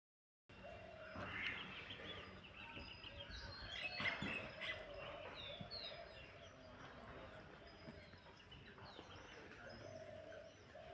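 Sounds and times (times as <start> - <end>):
birds chirping: 0.5 - 10.9.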